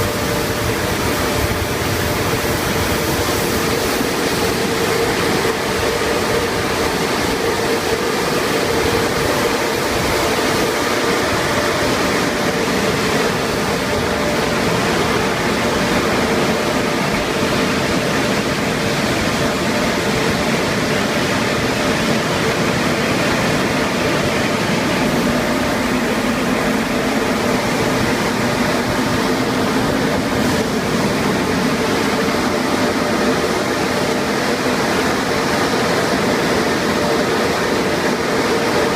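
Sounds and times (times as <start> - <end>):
car wash machinery rushing: 0.0 - 38.9
constant machine hum: 0.0 - 38.9.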